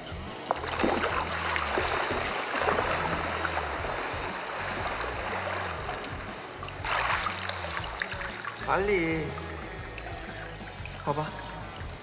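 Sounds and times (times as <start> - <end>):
pool water sloshing and splashing: 0.2 - 12.0.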